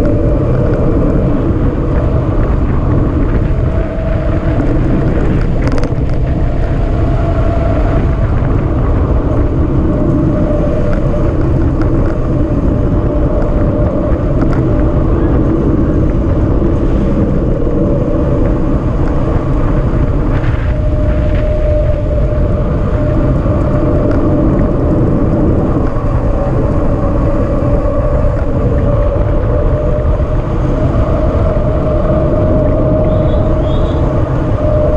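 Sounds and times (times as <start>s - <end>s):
wind and road noise: 0.0s - 34.9s.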